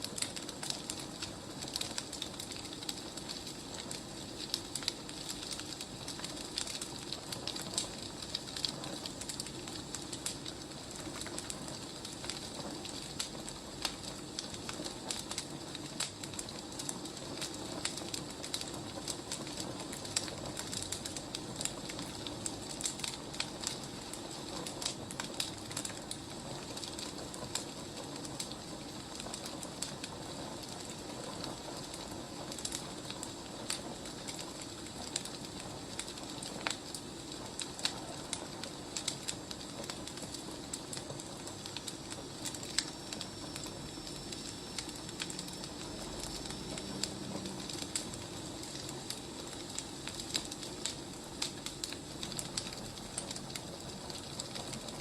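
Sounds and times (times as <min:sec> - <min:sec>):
logs crackling and popping: 0:00.0 - 0:55.0
wood fire burning: 0:00.0 - 0:55.0.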